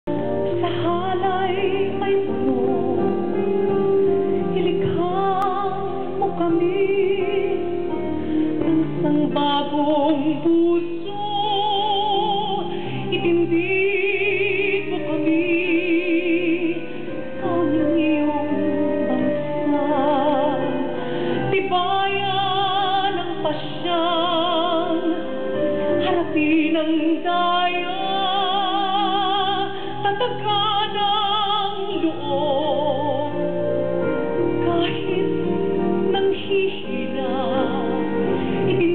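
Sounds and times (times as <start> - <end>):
woman singing into a microphone: 0.1 - 38.9.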